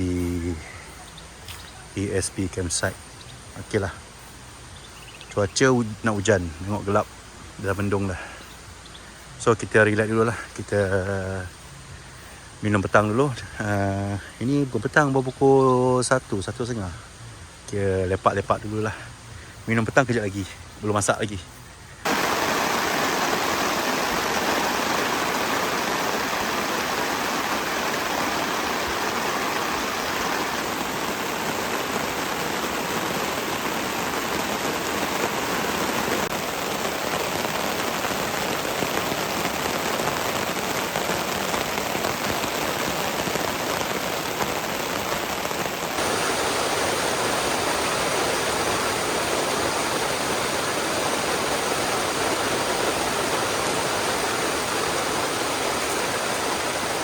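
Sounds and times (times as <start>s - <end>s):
rushing water hiss: 0.0s - 57.0s.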